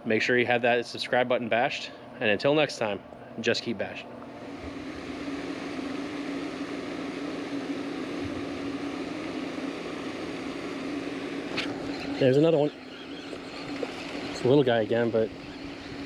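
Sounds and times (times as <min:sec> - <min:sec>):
low hum: 0:00.0 - 0:16.0
outdoor background hiss: 0:00.0 - 0:16.0.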